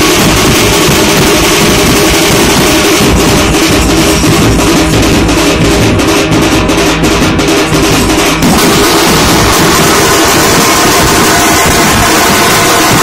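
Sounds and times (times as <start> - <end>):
bass drum struck: 0.0 - 13.0
snare drums rattling: 0.0 - 13.0.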